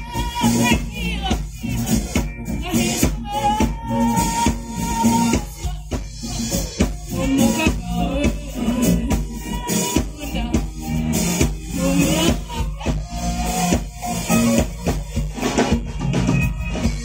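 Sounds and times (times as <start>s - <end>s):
drum kit beat: 0.0s - 17.0s
electric guitar: 0.0s - 17.0s
live band music: 0.0s - 17.0s
person singing: 0.0s - 17.0s.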